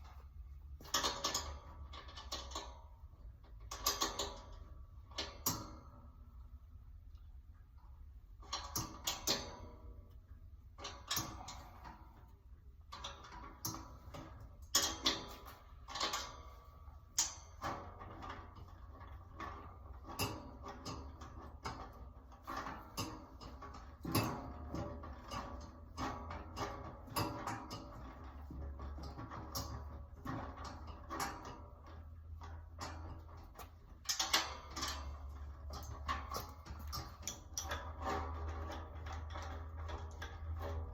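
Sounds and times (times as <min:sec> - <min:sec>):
clattering and knocking of rack parts: 0:00.0 - 0:06.6, 0:08.3 - 0:40.9.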